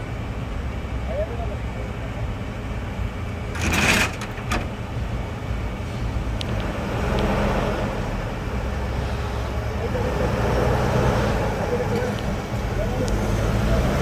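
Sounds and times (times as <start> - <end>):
motor vehicle engine rumbling: 0.0 - 14.0.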